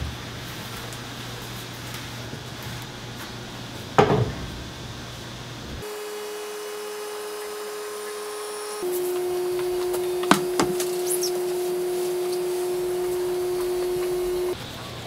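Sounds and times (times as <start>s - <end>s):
electrical hum of exposure unit: 0.0s - 15.0s.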